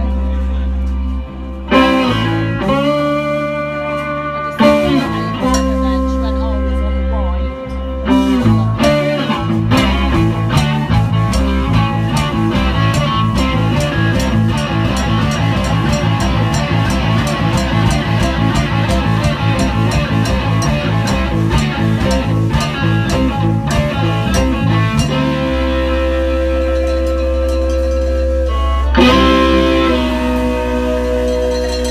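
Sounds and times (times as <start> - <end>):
bass line: 0.0 - 31.9
electric guitar: 0.0 - 31.9
drum kit beat: 1.7 - 31.9.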